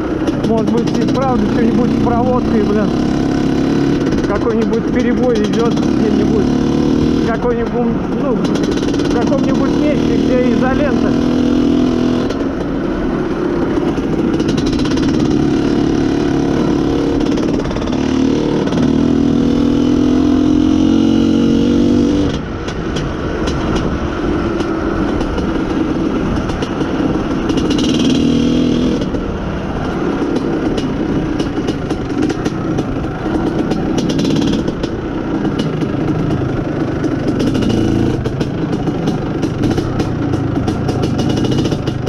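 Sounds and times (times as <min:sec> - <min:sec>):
two-stroke engine running: 0:00.0 - 0:42.0.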